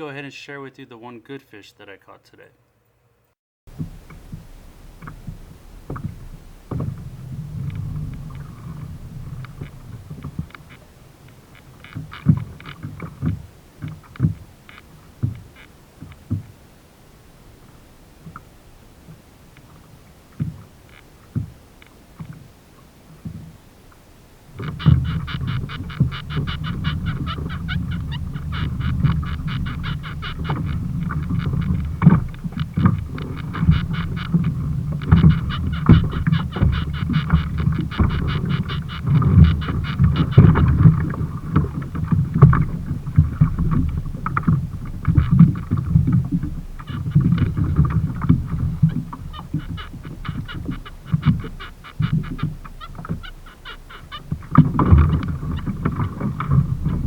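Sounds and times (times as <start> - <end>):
water and wind against kayak: 3.7 - 57.0.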